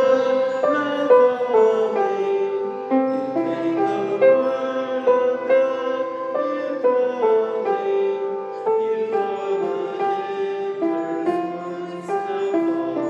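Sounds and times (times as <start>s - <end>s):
hymn music on keyboard: 0.0s - 13.0s.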